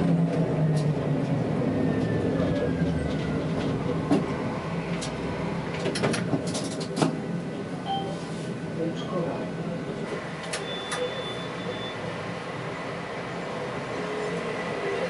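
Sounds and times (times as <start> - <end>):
tram rumble and whine: 0.0 - 15.0.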